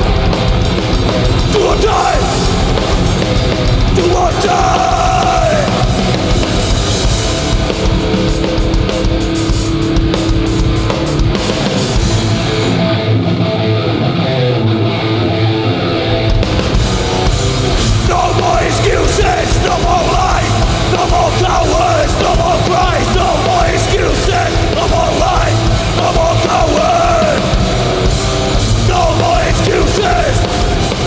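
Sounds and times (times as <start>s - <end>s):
pounding drum kit: 0.0s - 12.9s, 16.3s - 31.0s
bass guitar: 0.0s - 31.0s
distorted electric guitars: 0.0s - 31.0s.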